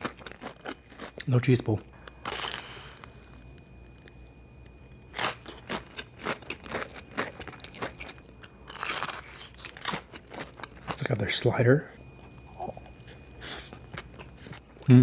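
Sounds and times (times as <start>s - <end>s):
chewing crunchy food: 0.0s - 14.9s.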